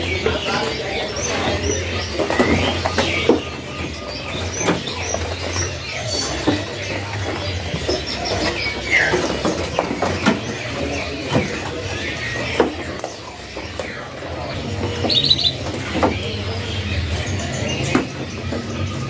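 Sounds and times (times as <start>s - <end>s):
songbirds chirping: 0.0s - 19.0s
wire cages rattling: 0.0s - 19.0s.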